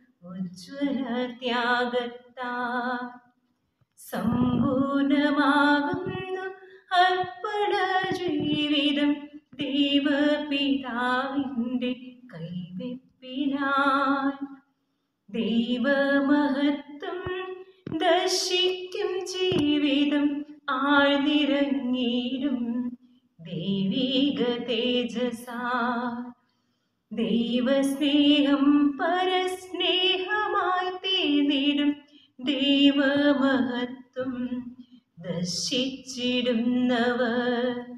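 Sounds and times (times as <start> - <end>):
woman singing unaccompanied: 0.0 - 3.2, 4.0 - 14.5, 15.3 - 26.4, 27.1 - 37.9.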